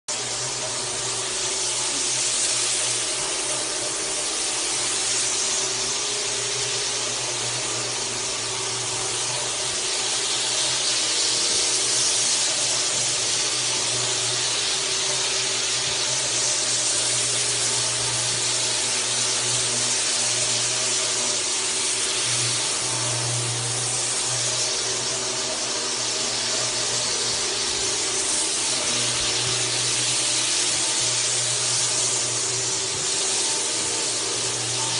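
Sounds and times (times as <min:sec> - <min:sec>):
buffer pad hissing on wood: 0:00.1 - 0:34.9
floor buffer motor hum: 0:00.1 - 0:34.9.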